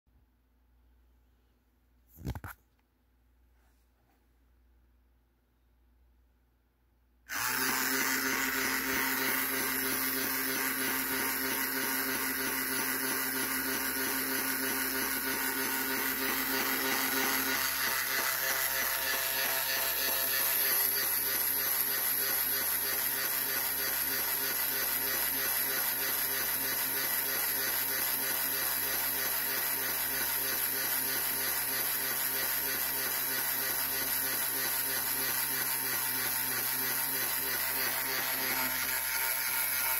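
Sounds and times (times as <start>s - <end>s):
small electric motor whirring: 7.3s - 39.9s.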